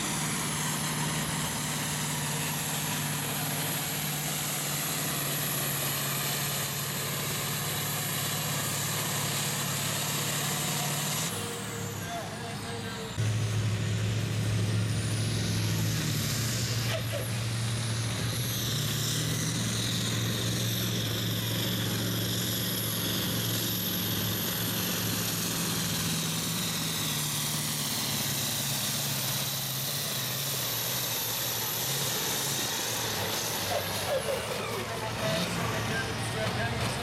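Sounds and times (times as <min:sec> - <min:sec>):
tractor engine at full load: 0:00.0 - 0:37.0.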